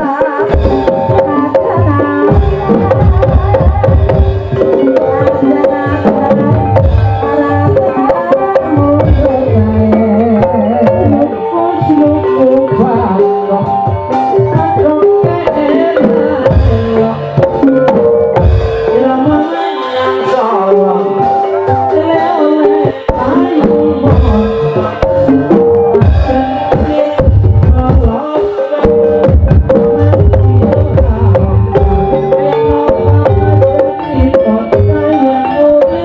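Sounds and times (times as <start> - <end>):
hand drums beating: 0.0 - 36.0.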